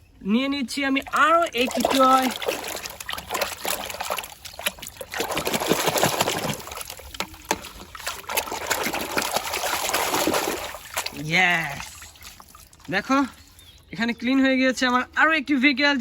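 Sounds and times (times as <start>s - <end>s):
water splashing and trickling: 0.3s - 15.0s.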